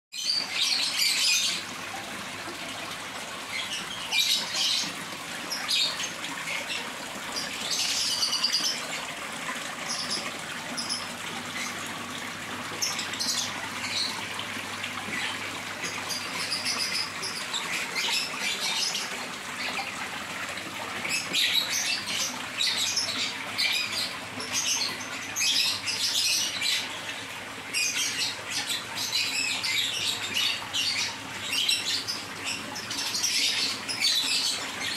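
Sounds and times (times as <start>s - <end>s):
birds chirping: 0.2s - 34.9s
small waterfall splashing: 0.2s - 34.9s.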